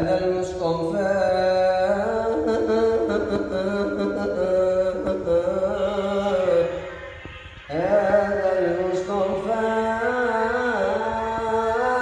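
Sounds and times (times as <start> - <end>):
person chanting unaccompanied: 0.0 - 12.0.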